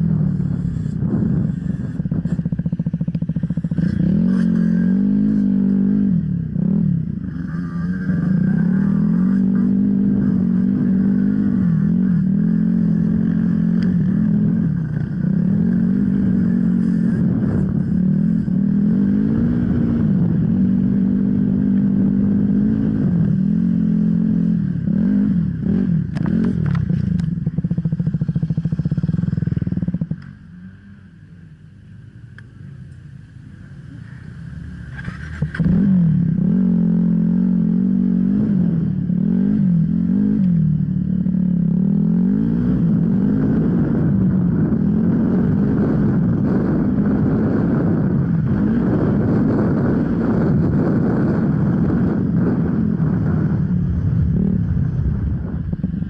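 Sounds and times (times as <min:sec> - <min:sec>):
motorcycle engine revving: 0:00.0 - 0:31.1, 0:33.8 - 0:56.0.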